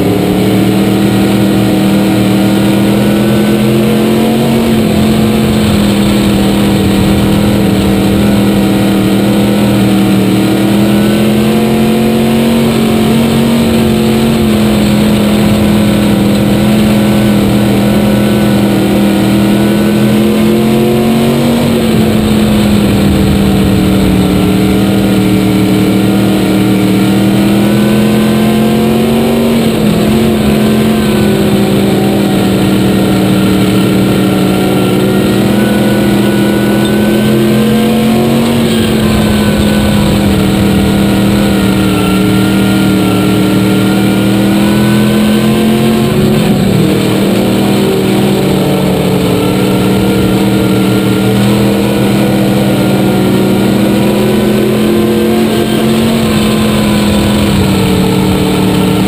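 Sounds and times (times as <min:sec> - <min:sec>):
race car engine running hard: 0:00.0 - 0:59.0.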